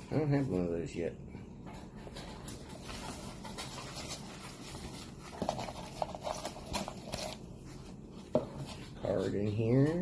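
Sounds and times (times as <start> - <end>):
crinkle paper rustling: 1.6 - 10.0.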